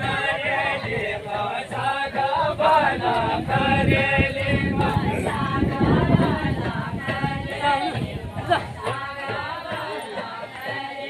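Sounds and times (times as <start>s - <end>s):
group singing folk song unaccompanied: 0.0s - 11.0s.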